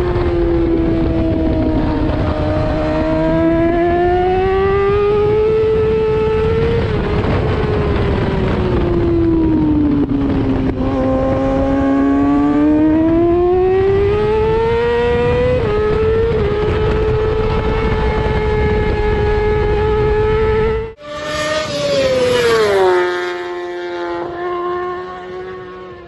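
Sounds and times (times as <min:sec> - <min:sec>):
race engine at high revs: 0:00.0 - 0:26.0
wind rush on microphone: 0:00.0 - 0:26.0.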